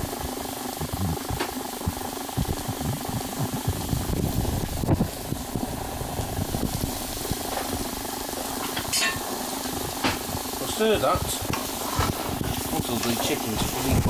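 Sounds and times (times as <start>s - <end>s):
chicken and mushrooms frying: 0.0s - 14.0s
low uneven rumble: 0.0s - 14.0s.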